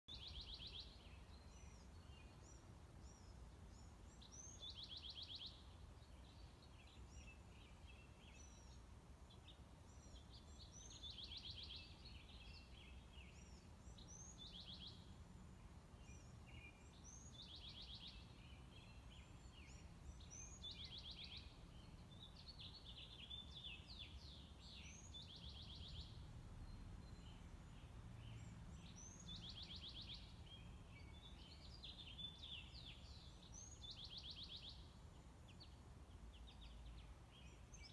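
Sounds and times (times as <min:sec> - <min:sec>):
bird chirps: 0:00.1 - 0:15.2, 0:15.9 - 0:37.9.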